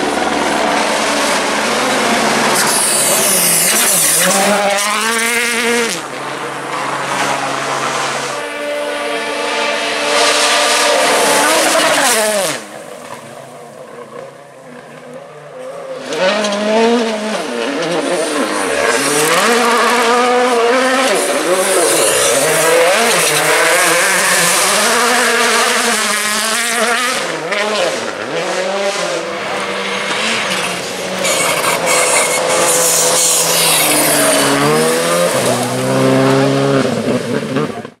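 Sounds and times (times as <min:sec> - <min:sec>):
rally car engines racing past: 0:00.0 - 0:38.0.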